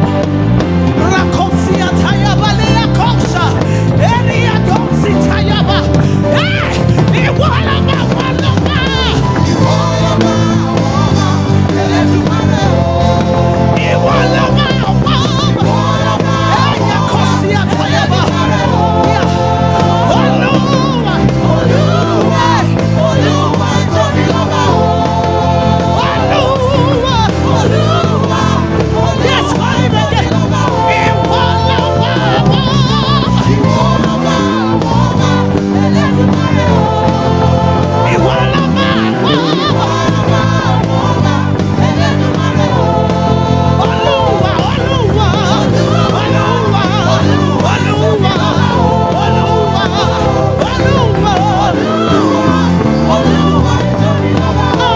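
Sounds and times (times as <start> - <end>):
band playing: 0.0 - 54.9
bass guitar low notes: 0.0 - 54.9
sustained chords: 0.0 - 54.9
voices singing gospel: 0.0 - 54.9.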